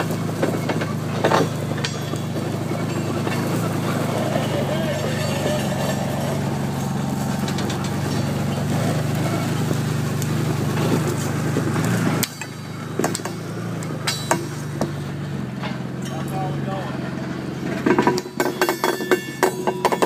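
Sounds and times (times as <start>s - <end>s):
sharp clicks and knocks: 0.0s - 16.3s, 17.6s - 20.0s
vehicle engine running: 0.0s - 20.0s.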